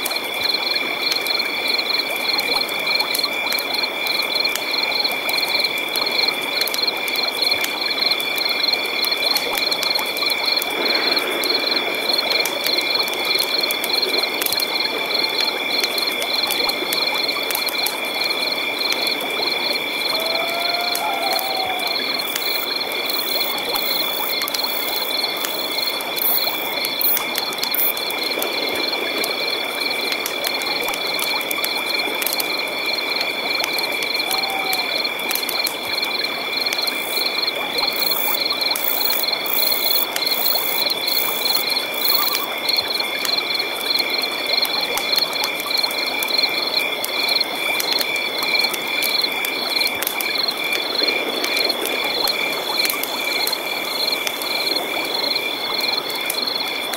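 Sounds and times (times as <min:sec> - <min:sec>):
frogs and insects trilling: 0:00.0 - 0:56.9.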